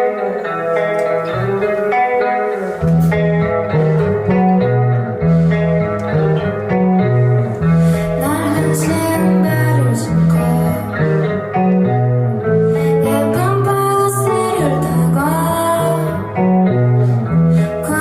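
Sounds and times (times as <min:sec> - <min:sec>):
bass notes: 0:00.0 - 0:18.0
electric guitar picking notes: 0:00.0 - 0:18.0.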